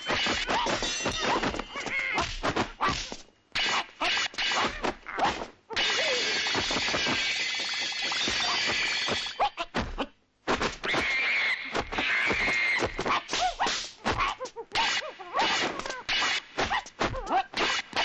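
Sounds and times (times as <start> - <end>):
shrill monkey-like screeching cries: 0.0 - 3.0, 3.6 - 9.6, 10.9 - 18.0.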